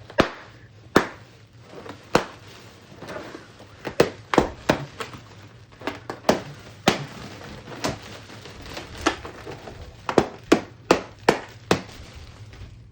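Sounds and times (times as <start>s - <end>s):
balloons popping: 0.0s - 12.9s.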